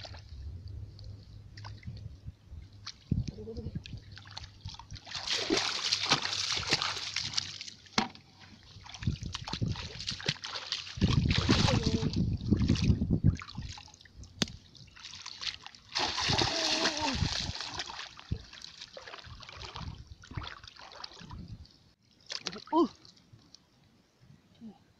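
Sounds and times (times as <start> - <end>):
wading through muddy water: 2.7 - 23.2.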